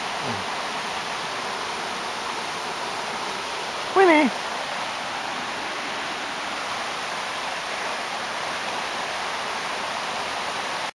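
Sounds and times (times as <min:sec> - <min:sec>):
floodwater rushing: 0:00.0 - 0:10.9.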